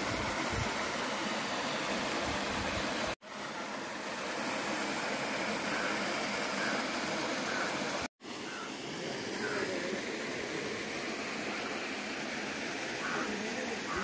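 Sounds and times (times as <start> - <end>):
rushing flowing water: 0.0 - 14.0.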